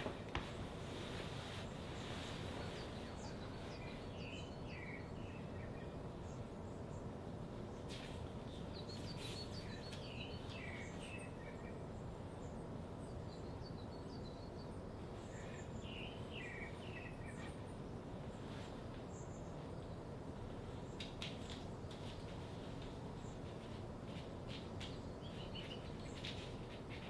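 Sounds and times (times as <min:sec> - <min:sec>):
low background hiss: 0:00.0 - 0:27.0
songbirds chirping: 0:00.0 - 0:27.0.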